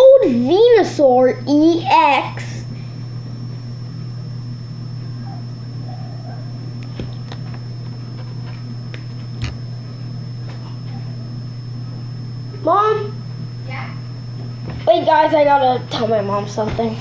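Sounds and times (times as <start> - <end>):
faint high whine: 0.0 - 17.0
low electrical hum: 0.0 - 17.0.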